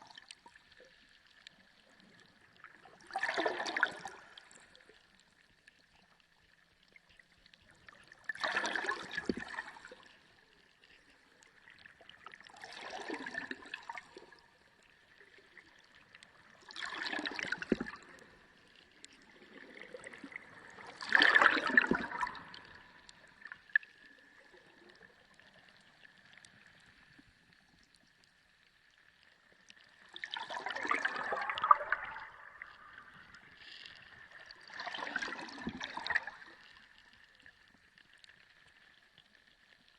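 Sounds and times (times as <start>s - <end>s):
sea water sloshing and gurgling: 0.0s - 39.9s.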